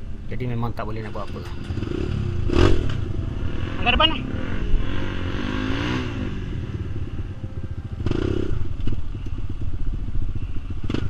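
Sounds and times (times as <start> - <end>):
dirt bike engine at low revs: 0.0 - 11.0.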